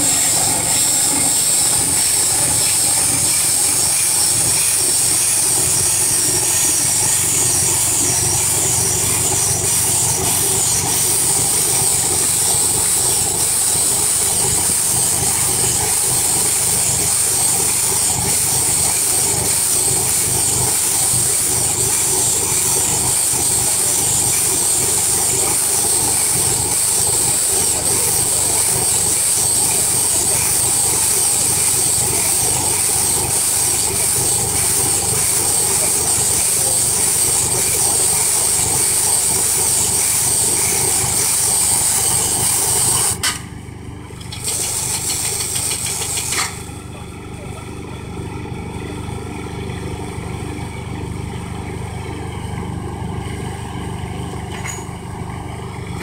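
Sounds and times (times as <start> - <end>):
farm machinery engine hum: 0.0 - 56.0.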